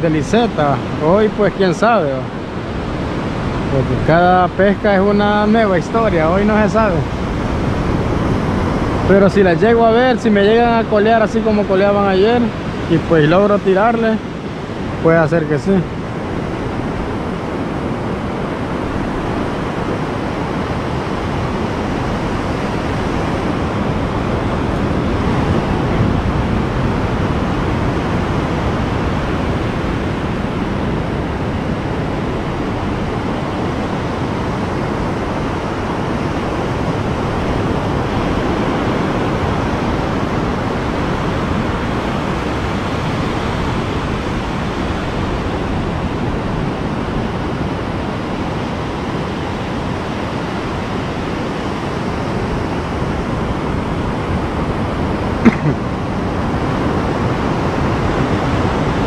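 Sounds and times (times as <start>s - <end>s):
surf breaking on sandy beach: 0.0s - 59.0s.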